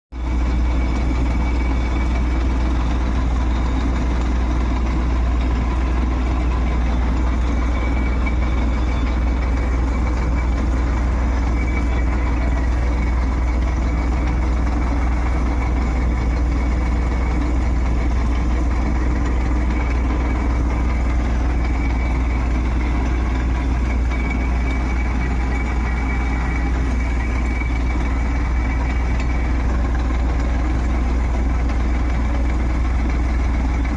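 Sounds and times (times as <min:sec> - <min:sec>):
truck engine idling: 0:00.1 - 0:33.9
faint high whine: 0:00.2 - 0:33.9.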